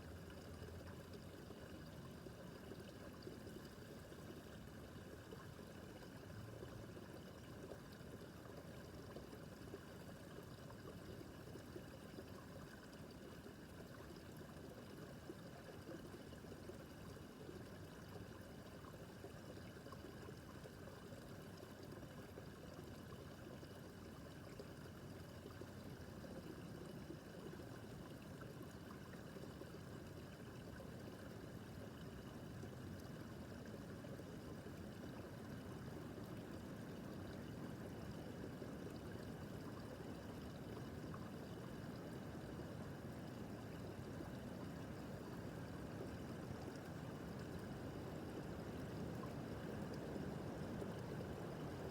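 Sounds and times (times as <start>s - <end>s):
brook babbling: 0.0s - 51.9s.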